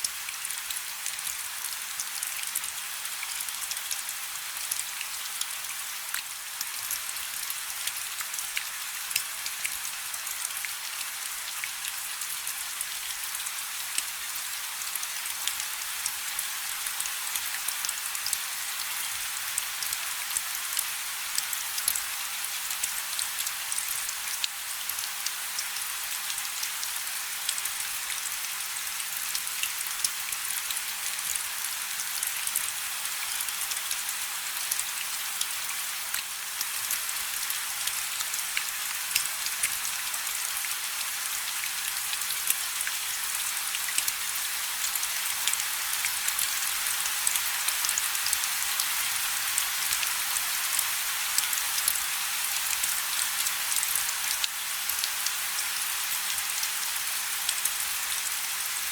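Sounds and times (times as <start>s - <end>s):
raindrops ticking on a surface: 0.0s - 58.9s.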